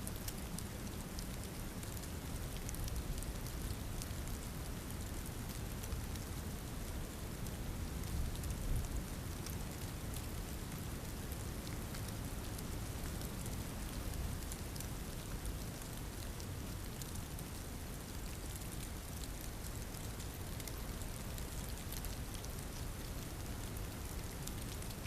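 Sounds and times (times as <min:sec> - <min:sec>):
falling rain hiss: 0:00.0 - 0:25.0.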